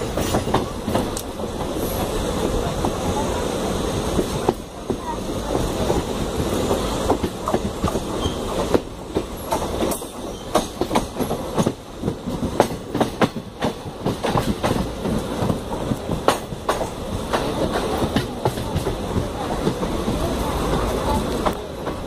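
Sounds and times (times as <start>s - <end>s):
train wheels clattering over rail joints: 0.0s - 3.0s, 4.0s - 22.0s.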